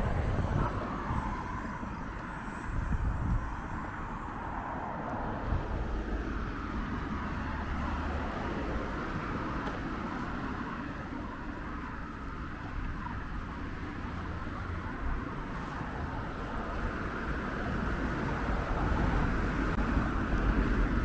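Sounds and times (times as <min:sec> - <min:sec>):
road traffic rumble and hiss: 0:00.0 - 0:21.0.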